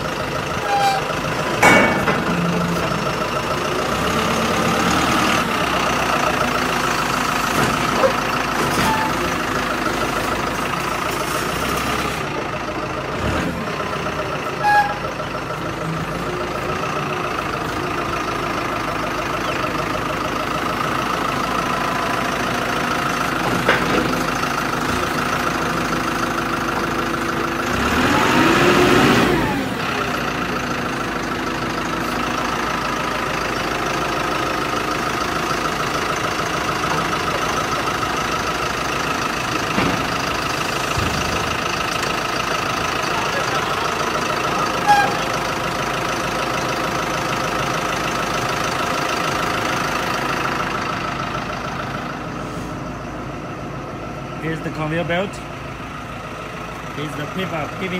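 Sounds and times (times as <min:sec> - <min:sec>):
vehicle engine idling: 0:00.0 - 0:57.9.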